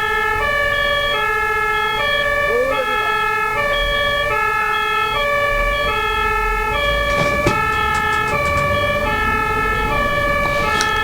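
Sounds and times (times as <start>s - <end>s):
two-tone ambulance siren: 0.0s - 11.0s.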